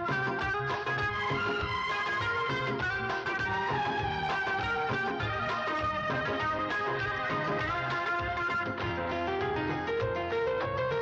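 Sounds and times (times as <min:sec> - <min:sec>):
film music with steady beat: 0:00.0 - 0:11.0.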